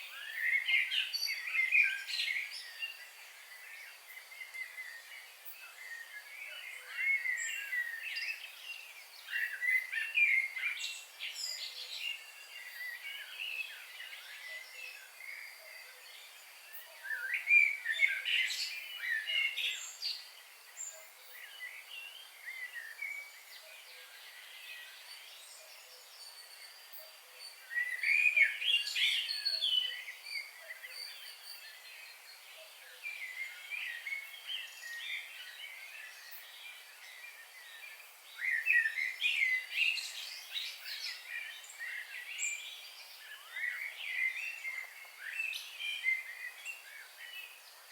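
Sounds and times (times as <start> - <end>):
wild birds chirping and singing: 0.0 - 47.9.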